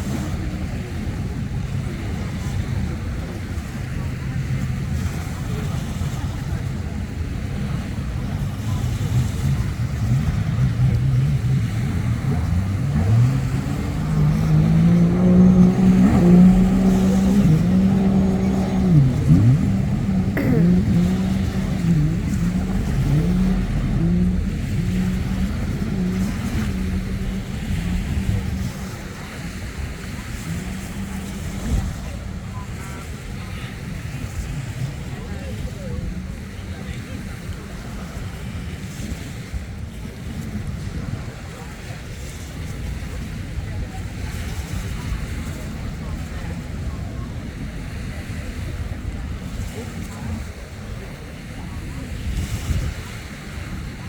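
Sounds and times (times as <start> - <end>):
jet ski engines whining: 0.0 - 54.0.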